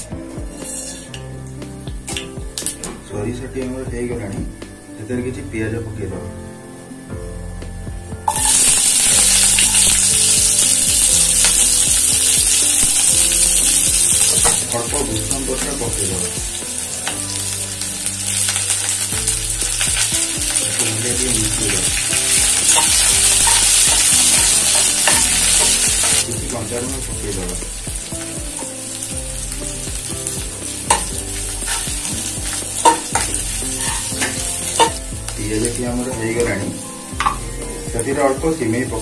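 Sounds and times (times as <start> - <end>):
onions sizzling in hot oil: 0.0 - 2.7, 8.2 - 39.0.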